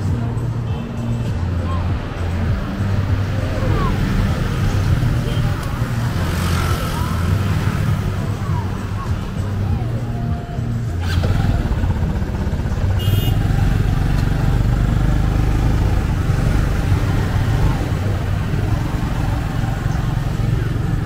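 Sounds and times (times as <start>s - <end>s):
motorbike engines rumbling: 0.0s - 21.0s.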